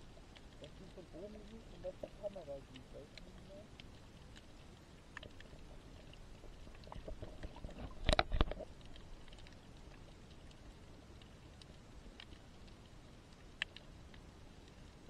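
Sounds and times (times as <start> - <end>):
faint underwater clicks: 0.0 - 15.0
muffled underwater rumble: 0.0 - 15.0.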